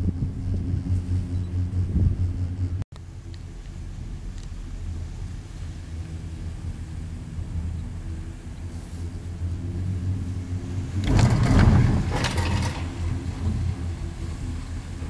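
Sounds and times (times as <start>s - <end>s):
gondola cabin hum: 0.0s - 15.0s
rattling rush: 0.0s - 15.0s.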